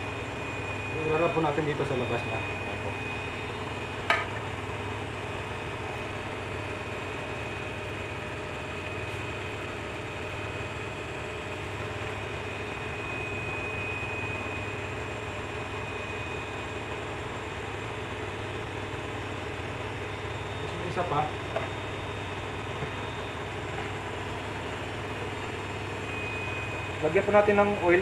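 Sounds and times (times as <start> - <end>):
appliance motor hum: 0.0 - 28.0
high-pitched whine: 0.0 - 28.0.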